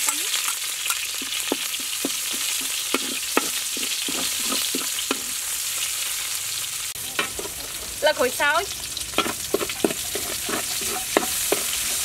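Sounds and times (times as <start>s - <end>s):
metal spatula scraping wok: 0.0s - 5.6s, 7.0s - 12.0s
garlic sizzling in hot oil: 0.0s - 12.0s.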